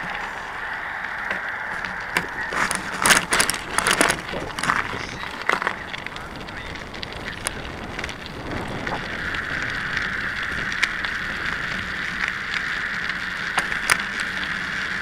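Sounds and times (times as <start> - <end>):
bicycle tyres hissing: 0.0 - 15.0
wind on microphone: 1.6 - 15.0.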